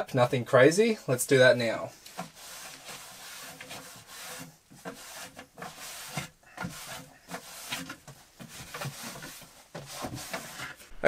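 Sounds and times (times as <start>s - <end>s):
cloth wiping wooden shelves: 1.4s - 11.0s.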